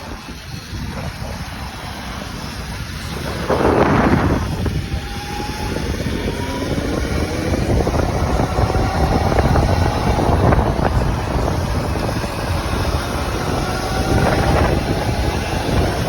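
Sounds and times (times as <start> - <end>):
faint whine rising in pitch: 0.0 - 16.0
wind rushing over microphone: 0.0 - 16.0
low rumble: 0.9 - 16.0.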